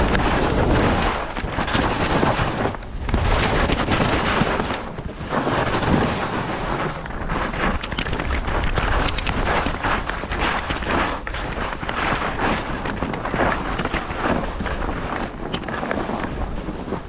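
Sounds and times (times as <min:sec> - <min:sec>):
skis scraping on snow: 0:00.0 - 0:17.0
wind buffeting microphone: 0:00.0 - 0:17.0.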